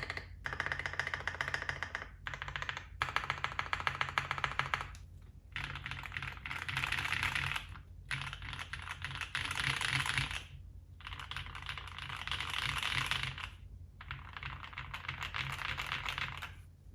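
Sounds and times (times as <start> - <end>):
mechanical keyboard typing: 0.0 - 16.6.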